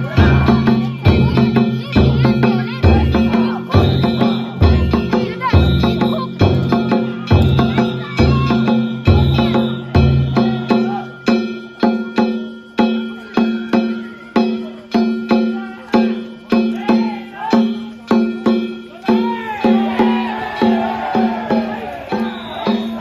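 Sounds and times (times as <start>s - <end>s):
voices shouting: 0.0s - 12.2s, 13.0s - 23.0s
deep drum beats: 0.0s - 23.0s.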